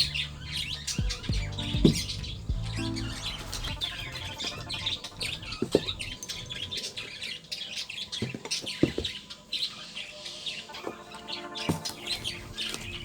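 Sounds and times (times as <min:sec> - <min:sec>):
birds chirping and squawking: 0:00.0 - 0:13.0.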